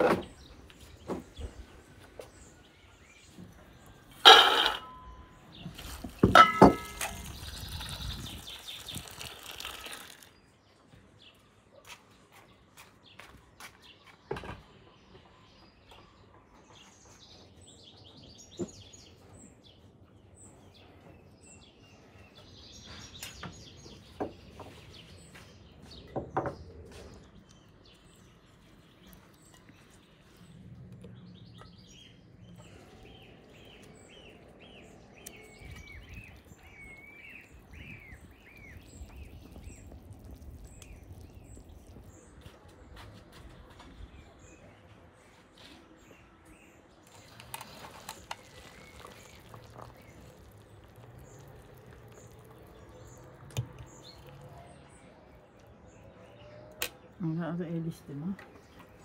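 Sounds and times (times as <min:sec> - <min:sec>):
quiet outdoor ambience: 0:00.0 - 0:59.0
songbirds chirping: 0:00.0 - 0:59.0.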